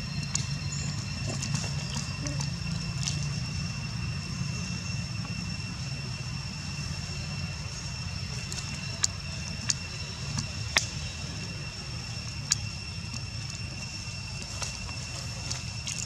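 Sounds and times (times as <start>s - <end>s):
low steady rumble: 0.0s - 16.0s
steady high whine: 0.0s - 16.0s.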